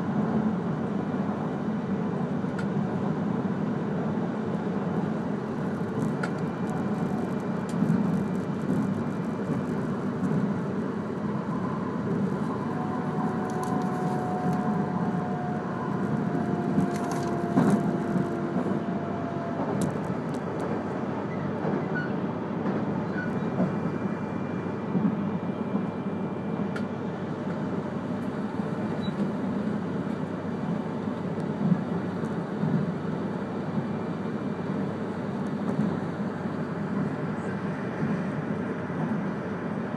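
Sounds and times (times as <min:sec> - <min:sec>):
wheel-on-rail rumble: 0:00.0 - 0:39.9.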